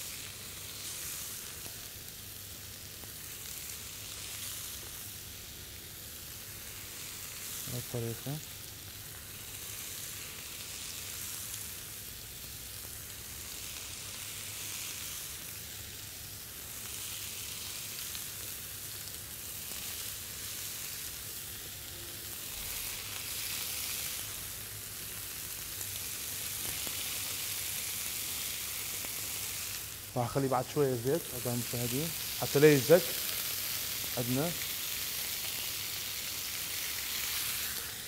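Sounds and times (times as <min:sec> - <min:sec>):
chicken sizzling on a grill: 0:00.0 - 0:38.0.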